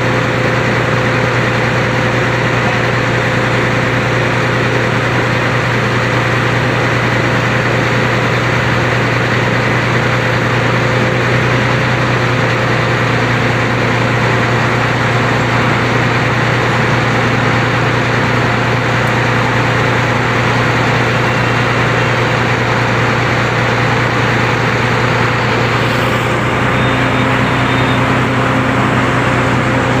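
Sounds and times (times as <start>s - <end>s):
heavy engine humming: 0.0s - 30.0s.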